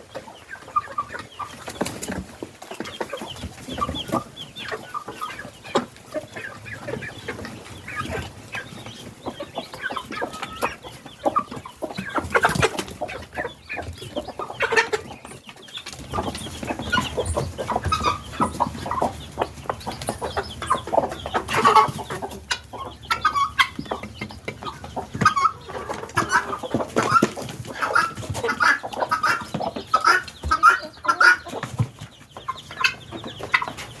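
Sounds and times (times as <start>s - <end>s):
guinea fowl calling: 2.8s - 31.8s, 32.4s - 34.0s.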